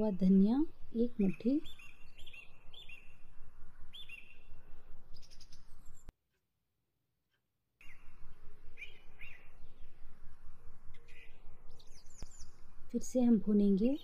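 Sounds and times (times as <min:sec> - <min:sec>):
birds chirping: 0:00.0 - 0:06.1, 0:07.8 - 0:14.0.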